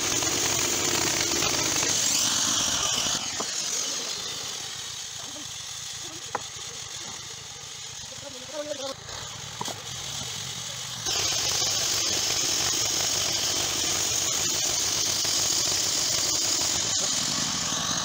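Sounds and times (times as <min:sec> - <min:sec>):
band saw blade cutting wood: 0:00.0 - 0:18.0.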